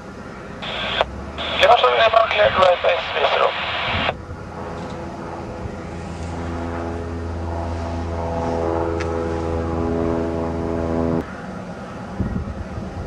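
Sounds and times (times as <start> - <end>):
light aircraft engine droning: 0.0 - 13.0.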